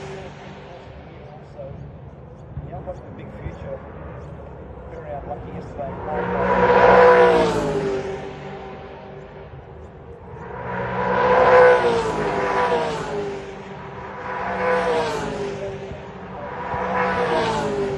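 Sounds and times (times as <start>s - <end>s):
race cars passing at speed: 0.0s - 17.9s.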